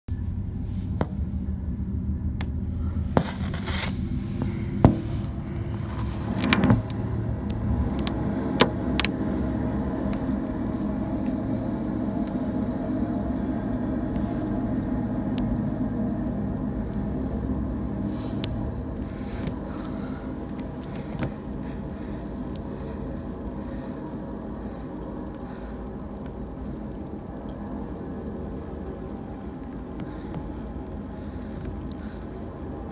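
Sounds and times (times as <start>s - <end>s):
freight train rumbling past: 0.1s - 32.9s
steady hum: 0.1s - 32.9s.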